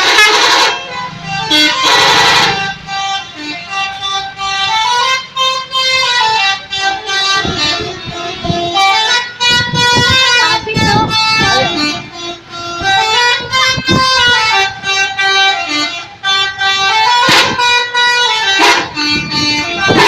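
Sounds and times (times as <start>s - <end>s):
multi-tone bus horn tune: 0.0s - 20.0s.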